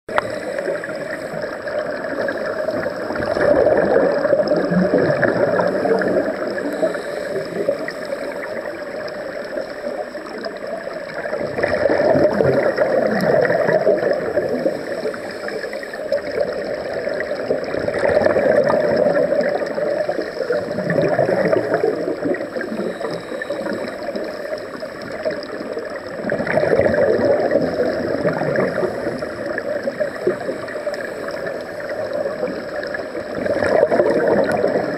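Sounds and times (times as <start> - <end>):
underwater regulator bubbles: 0.1 - 34.9.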